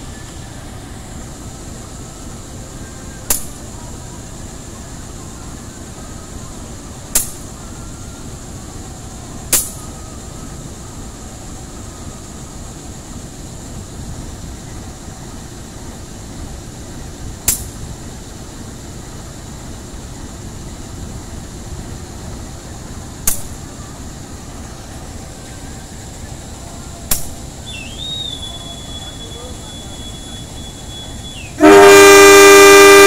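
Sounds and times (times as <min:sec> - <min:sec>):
diesel locomotive idling: 0:00.0 - 0:33.0.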